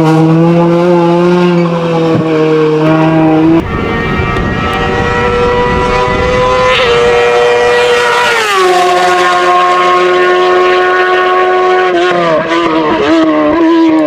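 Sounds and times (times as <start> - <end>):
race car engine at high revs: 0.0 - 14.0.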